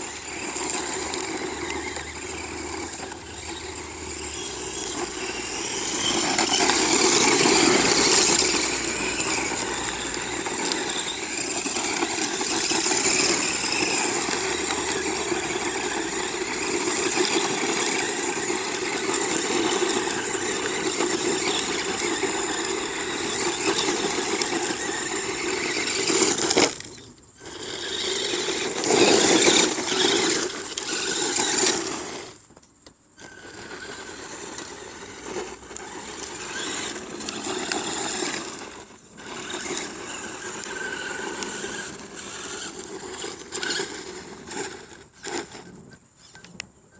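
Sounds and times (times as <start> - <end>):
toy truck motor whining: 0.0 - 32.5, 33.1 - 46.7.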